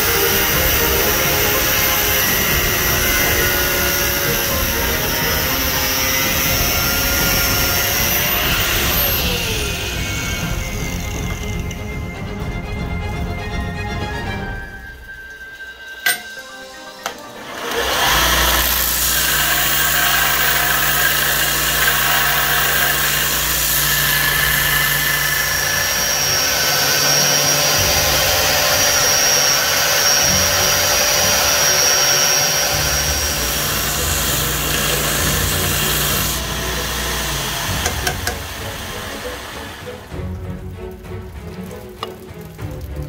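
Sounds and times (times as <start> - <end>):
belt grinder grinding steel: 0.0 - 12.6, 15.7 - 40.2.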